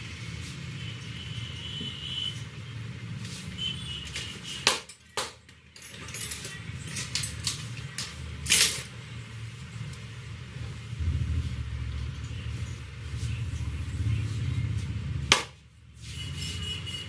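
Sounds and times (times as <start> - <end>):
traffic hum: 0.0 - 17.0.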